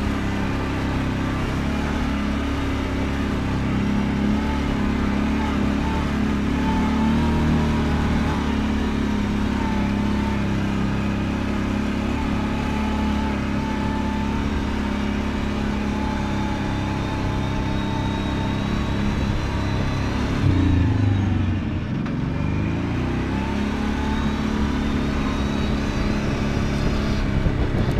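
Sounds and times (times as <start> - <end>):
atv engine running: 0.0 - 27.9.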